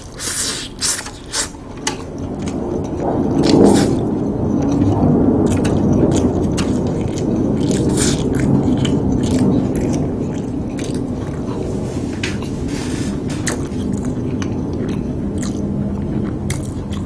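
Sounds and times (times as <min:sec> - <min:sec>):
chewing and mouth smacks: 0:00.0 - 0:12.6, 0:13.3 - 0:17.0
low rumble: 0:01.6 - 0:17.0.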